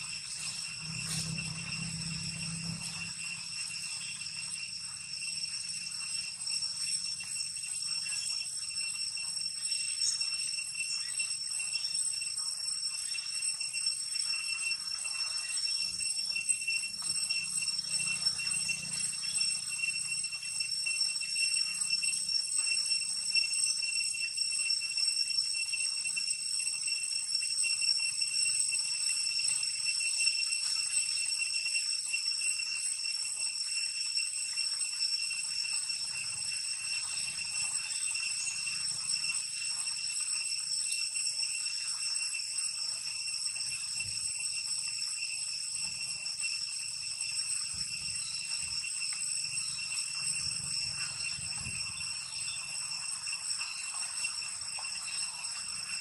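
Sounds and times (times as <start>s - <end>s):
insect chorus ringing drone: 0.0s - 56.0s.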